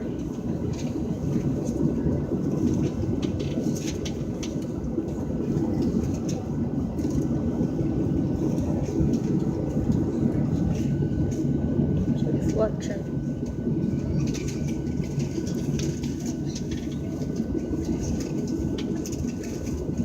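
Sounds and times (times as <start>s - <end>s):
aircraft cabin engine rumble: 0.0s - 20.0s.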